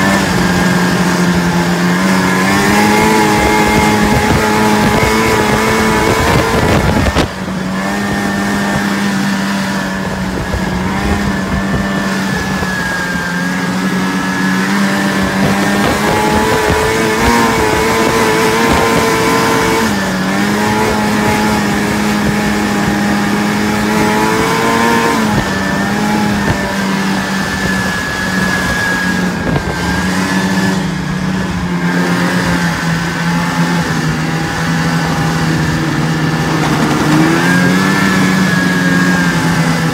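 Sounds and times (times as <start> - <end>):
loud rushing noise: 0.0 - 39.9
snowmobile engine running: 0.0 - 39.9.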